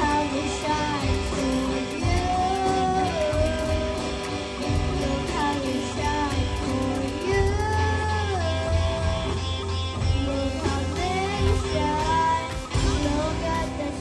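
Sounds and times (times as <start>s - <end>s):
plucked guitar: 0.0s - 14.0s
steady bass: 0.0s - 14.0s.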